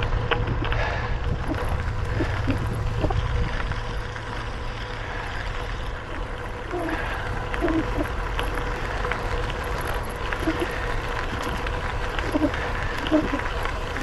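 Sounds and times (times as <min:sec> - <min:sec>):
bicycle road noise: 0:00.0 - 0:14.0
faint ticks: 0:00.0 - 0:14.0
wind rumble on microphone: 0:00.0 - 0:14.0.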